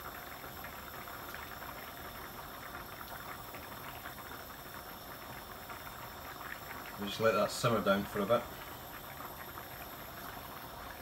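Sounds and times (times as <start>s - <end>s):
sauce bubbling in frying pan: 0.0s - 11.0s.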